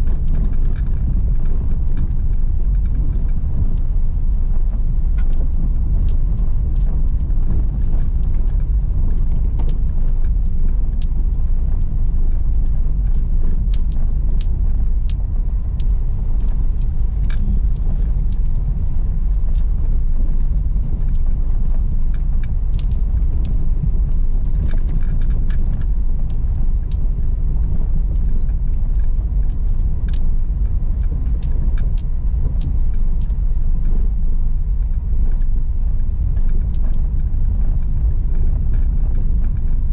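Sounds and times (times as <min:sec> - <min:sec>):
engine and tyres rumbling: 0:00.0 - 0:39.9
small clicks and ticks: 0:00.0 - 0:39.9.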